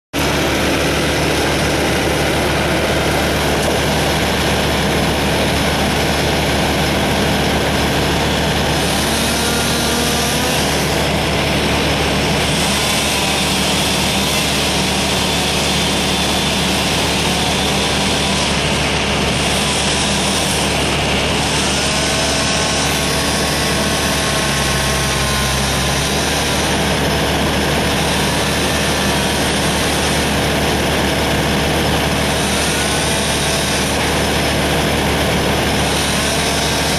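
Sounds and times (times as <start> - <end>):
engine running steadily: 0.1 - 36.9.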